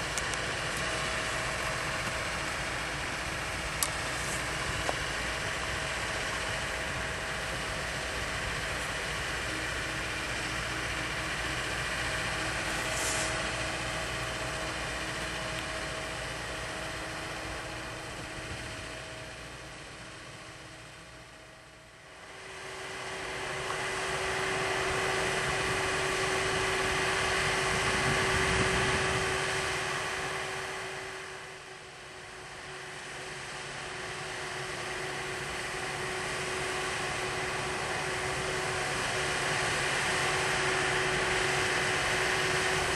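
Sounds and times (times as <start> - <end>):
diesel engine hum: 0.0 - 42.9
hydraulic whine: 0.0 - 42.9.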